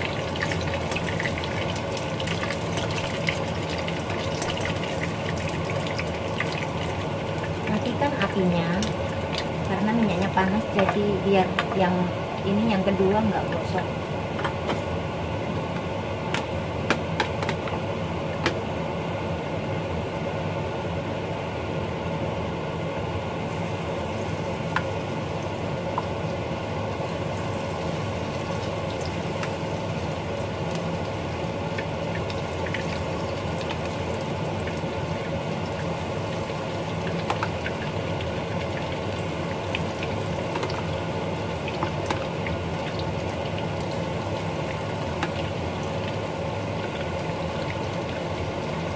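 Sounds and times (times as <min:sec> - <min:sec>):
steady kitchen hum: 0:00.0 - 0:48.9.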